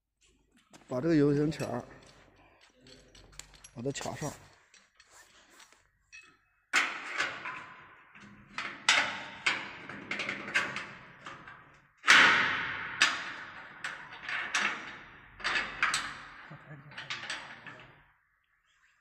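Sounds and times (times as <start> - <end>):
metal clamp clanking on steel frame: 1.3 - 18.1.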